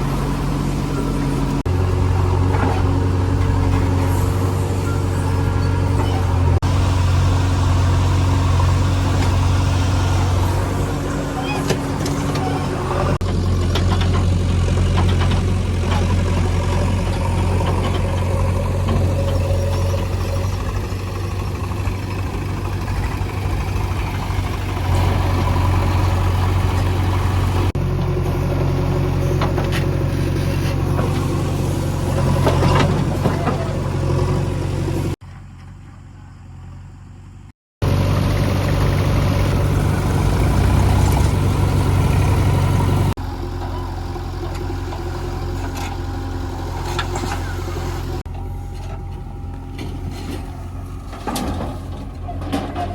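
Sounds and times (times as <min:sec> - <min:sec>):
diesel engine running steadily: 0:00.0 - 0:52.9.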